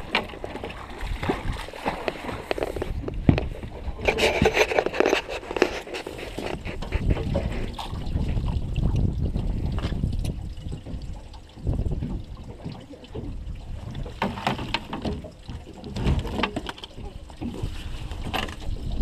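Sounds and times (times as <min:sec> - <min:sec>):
water splashing beside boat: 0:00.0 - 0:19.0
wind rumble on microphone: 0:00.0 - 0:19.0.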